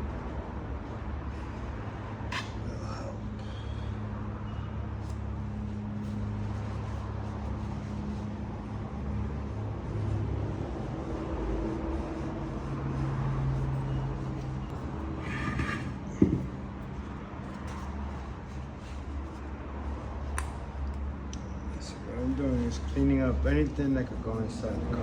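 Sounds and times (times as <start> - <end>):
low mechanical hum and rumble: 0.0 - 25.0.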